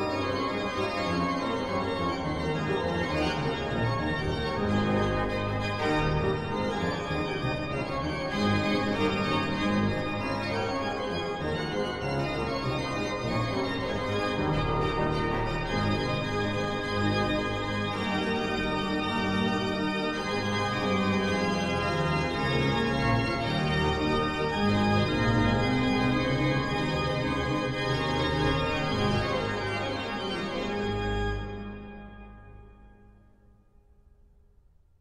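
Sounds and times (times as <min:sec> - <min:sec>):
organ chords: 0:00.0 - 0:33.6.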